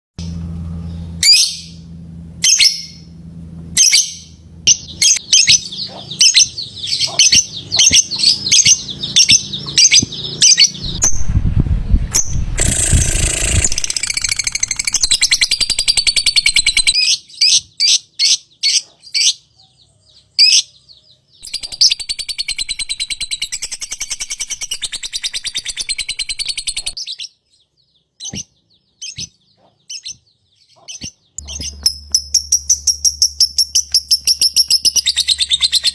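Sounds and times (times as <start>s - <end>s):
lovebird chirping and trilling: 0.2s - 3.1s, 3.8s - 35.9s.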